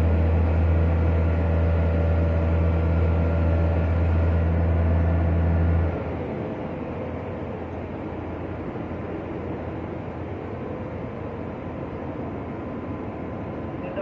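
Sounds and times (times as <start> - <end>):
crane engine humming: 0.0 - 14.0.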